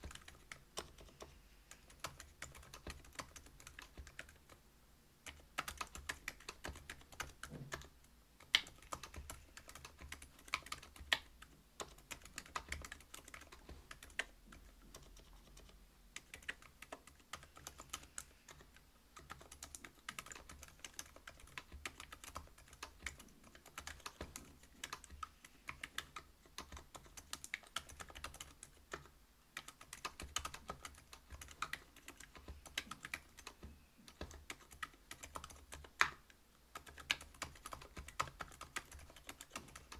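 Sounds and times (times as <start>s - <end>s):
quiet keyboard keystrokes: 0.0s - 4.6s, 5.2s - 39.9s.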